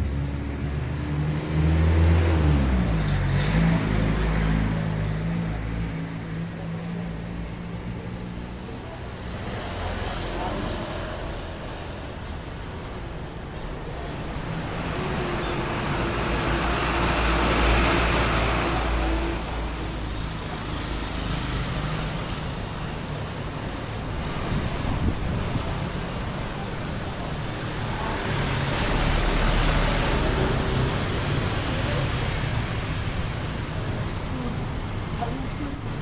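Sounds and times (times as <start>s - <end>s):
motor vehicle engine: 0.0s - 36.0s
road traffic: 0.0s - 36.0s.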